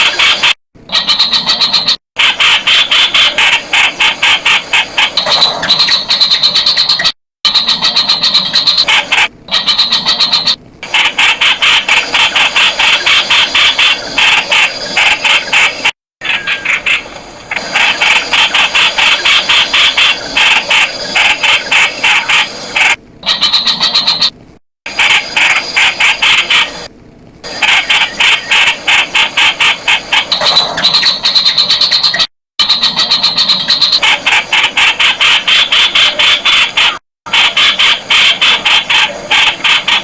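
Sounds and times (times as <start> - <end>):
bird harsh repeated calls: 0.0 - 26.9, 27.5 - 40.0.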